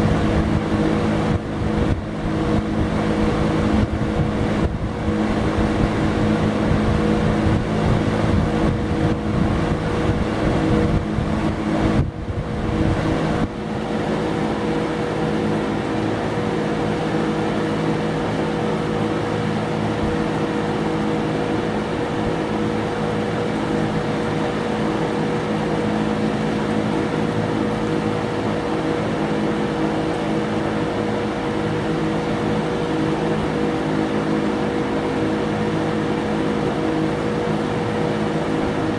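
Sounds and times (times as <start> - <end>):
box fan running: 0.0 - 38.9.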